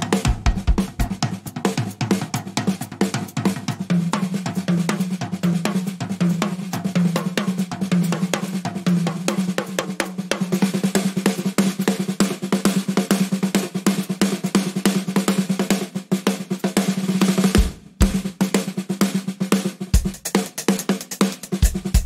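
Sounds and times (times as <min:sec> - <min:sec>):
drum kit playing busily: 0:00.0 - 0:22.0.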